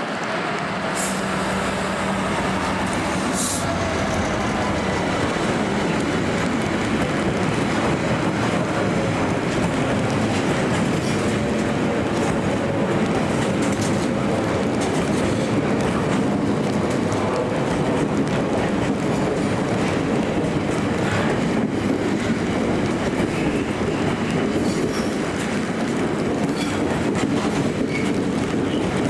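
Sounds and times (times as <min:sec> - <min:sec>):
diesel locomotive engine humming: 0:00.0 - 0:27.8
freight wagons rumbling over rails: 0:00.0 - 0:29.0.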